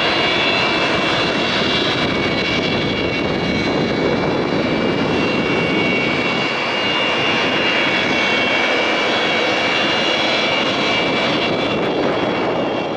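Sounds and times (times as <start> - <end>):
jet engines rushing and whining: 0.0 - 12.9.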